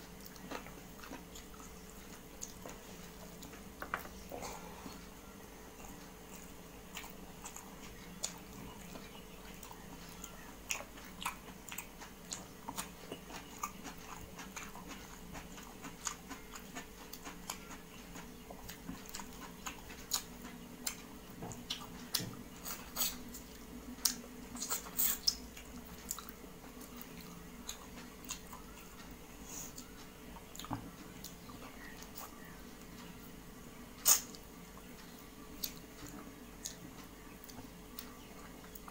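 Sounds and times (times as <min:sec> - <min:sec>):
person chewing food: 0:00.0 - 0:33.1, 0:34.0 - 0:38.9
faint steady hum: 0:00.0 - 0:38.9.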